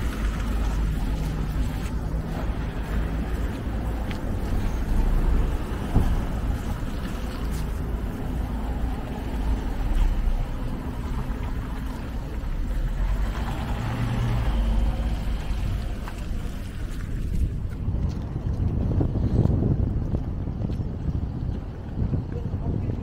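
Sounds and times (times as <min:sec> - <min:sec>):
cars and buses driving past: 0:00.0 - 0:23.0.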